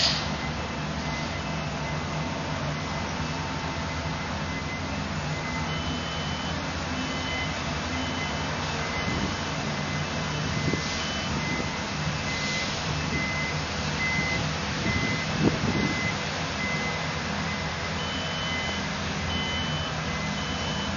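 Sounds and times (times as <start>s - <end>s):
heavy diesel machinery humming: 0.0s - 20.9s
reversing alarm beeping: 0.0s - 20.9s.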